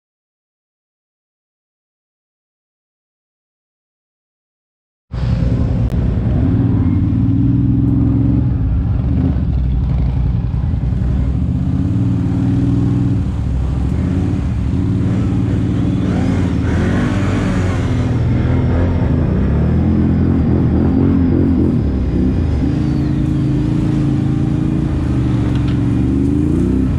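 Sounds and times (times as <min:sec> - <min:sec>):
atv engine running: 0:05.2 - 0:26.9.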